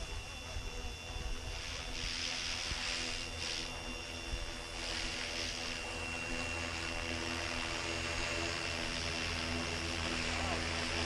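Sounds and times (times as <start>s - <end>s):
rc helicopter whine: 0.0s - 11.0s.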